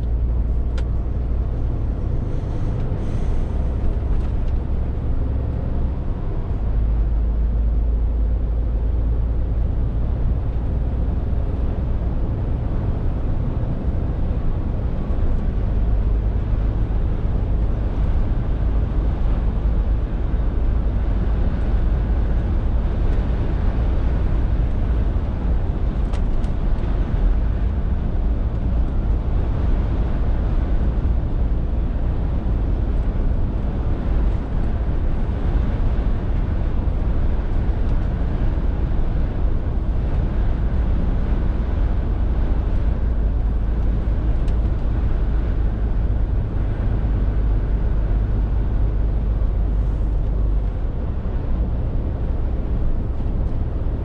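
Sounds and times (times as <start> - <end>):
lorry diesel engine running: 0.0 - 54.0
tyre and road noise: 0.0 - 54.0.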